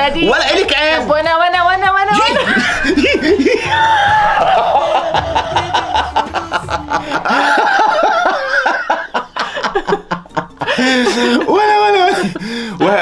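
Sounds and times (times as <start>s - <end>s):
man and woman laughing: 2.1s - 13.0s.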